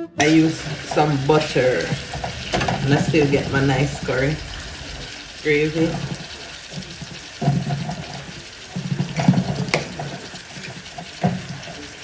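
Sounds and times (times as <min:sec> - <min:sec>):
water running: 0:00.0 - 0:12.0.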